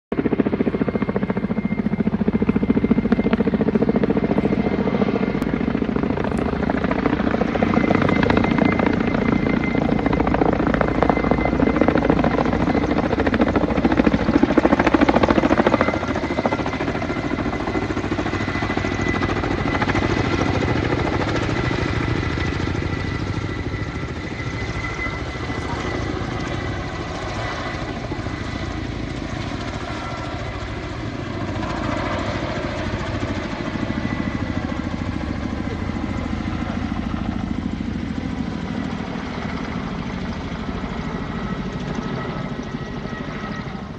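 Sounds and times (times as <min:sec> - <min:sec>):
helicopter rotor chopping: 0:00.1 - 0:43.9.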